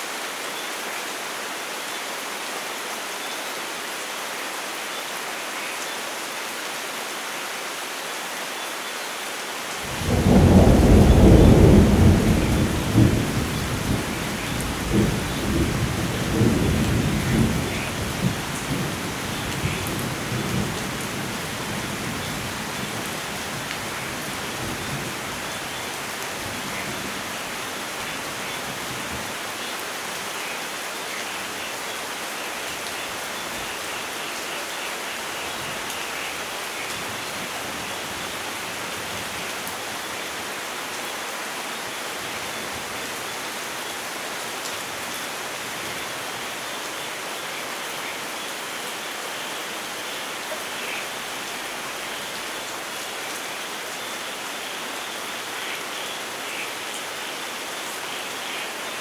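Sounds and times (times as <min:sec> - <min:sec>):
rain on foliage and ground: 0:00.0 - 0:59.0.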